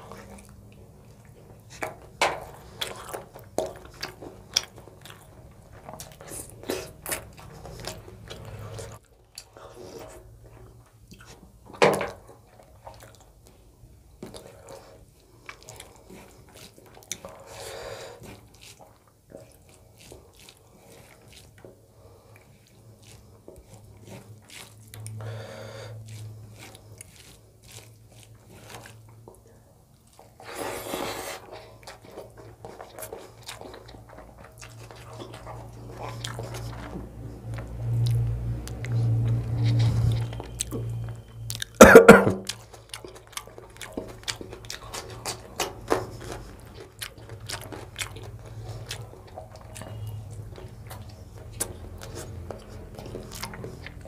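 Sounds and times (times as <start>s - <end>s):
soft wet chewing: 0.0s - 54.0s.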